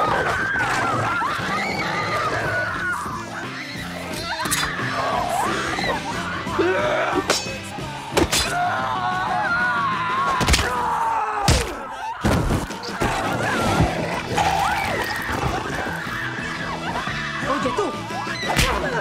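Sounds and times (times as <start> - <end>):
pained cries and screams: 0.0 - 19.0.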